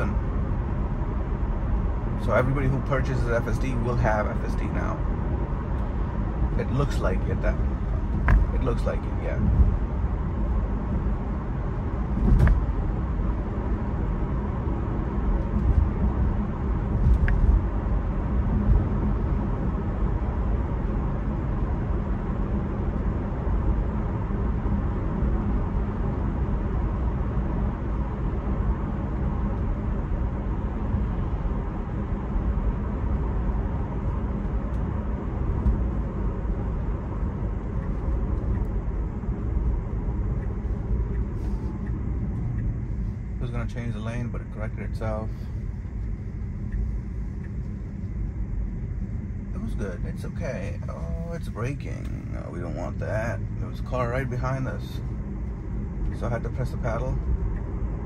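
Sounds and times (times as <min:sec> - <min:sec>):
road and tyre noise in car: 0:00.0 - 0:58.0.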